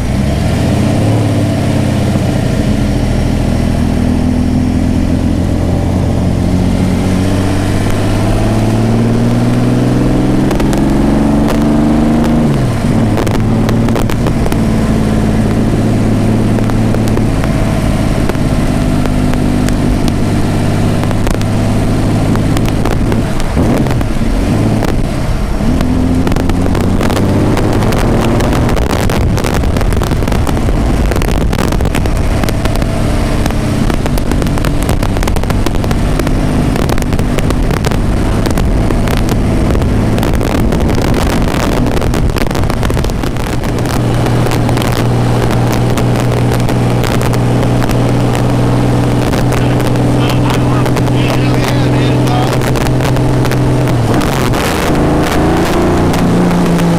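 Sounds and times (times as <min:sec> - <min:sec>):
racing engine running: 0:00.0 - 0:56.9
sharp pops and clicks: 0:04.0 - 0:56.9.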